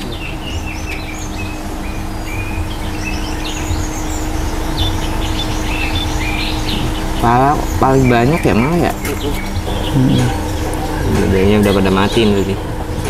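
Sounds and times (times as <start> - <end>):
birds chirping and whistling: 0.0 - 13.0
steady low hum: 0.0 - 13.0.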